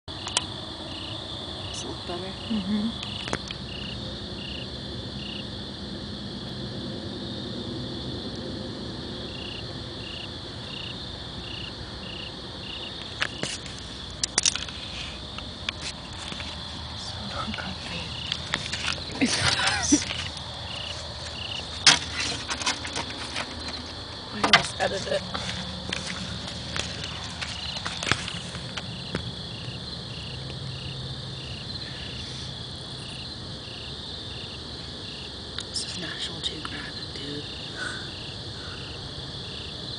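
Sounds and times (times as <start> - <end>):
crickets chirping: 0.0 - 39.9
night insects chorus: 0.0 - 39.9.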